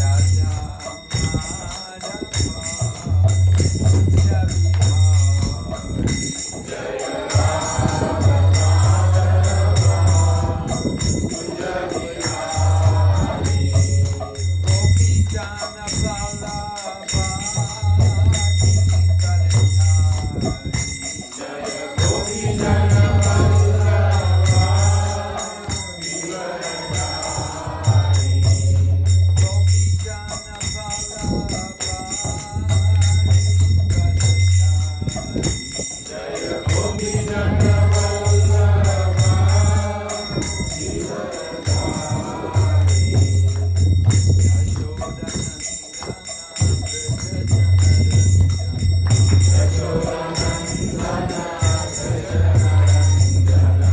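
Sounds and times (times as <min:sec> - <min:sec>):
small hand cymbals jingling: 0:00.0 - 0:53.9
voices singing devotional melody: 0:00.0 - 0:53.9.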